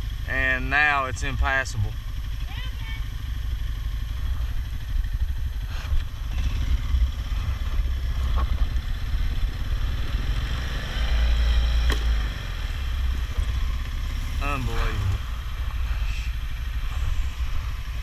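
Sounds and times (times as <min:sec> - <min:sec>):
quad bike engine rumbling: 0:00.0 - 0:18.0.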